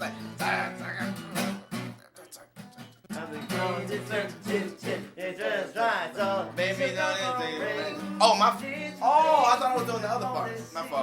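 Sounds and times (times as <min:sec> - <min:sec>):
acoustic guitar chords: 0:00.0 - 0:11.0
man half singing: 0:02.0 - 0:11.0.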